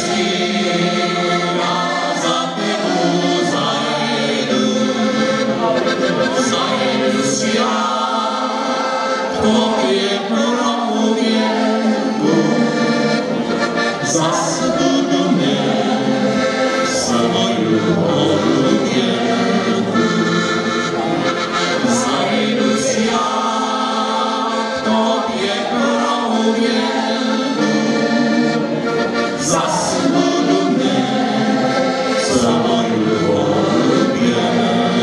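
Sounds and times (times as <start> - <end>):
button accordions playing folk tune: 0.0 - 35.0
men singing in harmony: 0.0 - 35.0.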